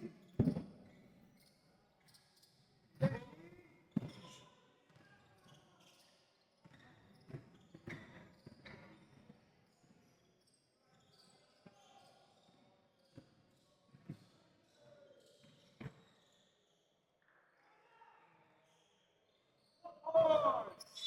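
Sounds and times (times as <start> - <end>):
faint voices in a hall: 0.0 - 21.0.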